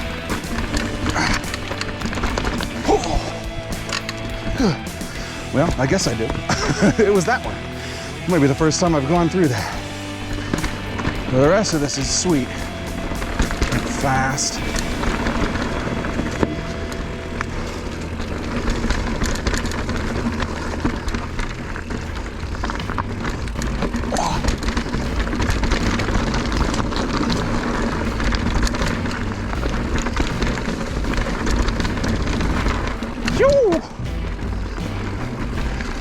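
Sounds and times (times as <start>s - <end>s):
bike rattling over rocks: 0.0s - 36.0s
bike tyre noise: 0.0s - 36.0s.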